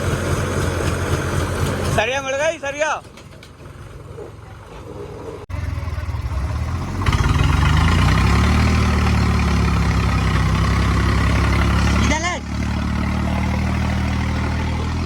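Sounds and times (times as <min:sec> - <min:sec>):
tractor diesel engine revving: 0:00.0 - 0:02.9, 0:05.5 - 0:15.0.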